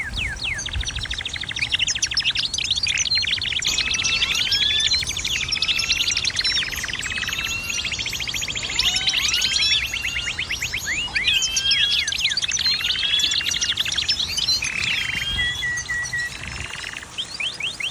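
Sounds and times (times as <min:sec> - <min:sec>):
finches and canaries chirping: 0:00.0 - 0:17.9.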